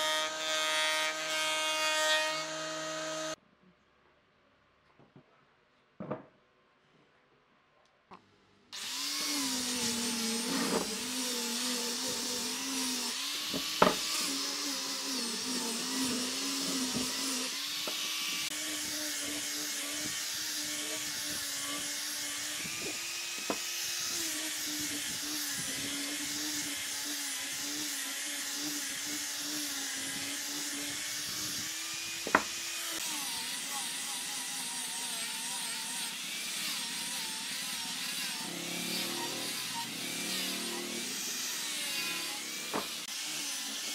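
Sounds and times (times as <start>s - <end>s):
angle grinder sanding wood: 0.0s - 3.4s, 8.8s - 43.9s.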